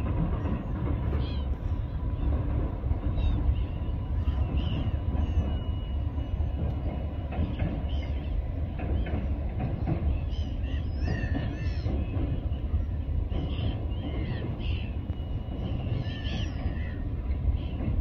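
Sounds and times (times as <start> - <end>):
distant train rumble: 0.0 - 18.0
bird calls chirping: 0.4 - 18.0.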